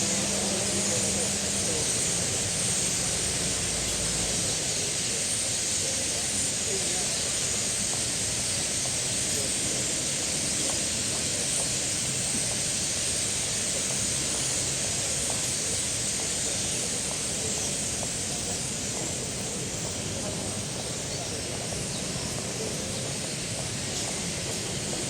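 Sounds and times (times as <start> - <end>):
flock of starlings chattering: 0.0 - 25.0.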